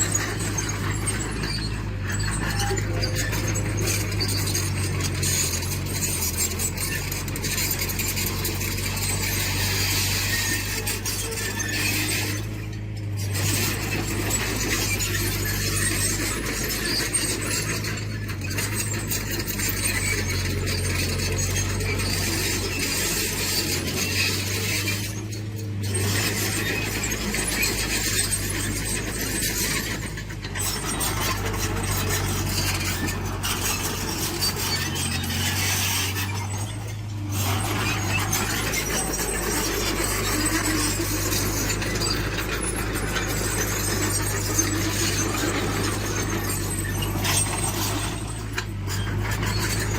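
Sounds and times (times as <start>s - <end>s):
diesel engine running: 0.0s - 49.9s
metallic squealing and clinking tracks: 0.0s - 49.9s.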